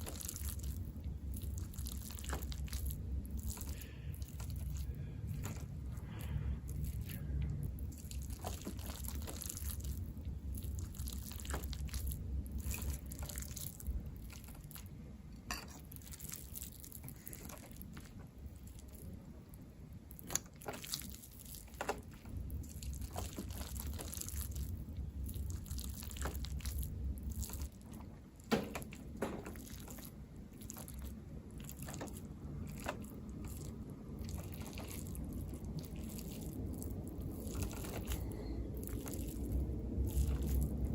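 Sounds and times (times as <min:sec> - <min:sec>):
person chewing: 0:00.0 - 0:15.0, 0:15.8 - 0:28.0, 0:29.5 - 0:40.9
low steady rumble: 0:00.0 - 0:40.9.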